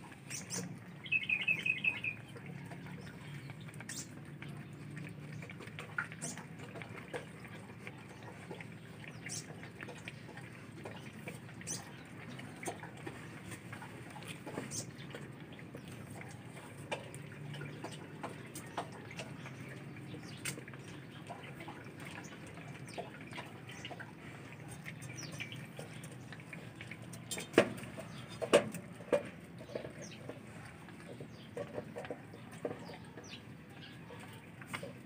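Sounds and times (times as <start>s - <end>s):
puppies lapping food: 0.0s - 35.0s.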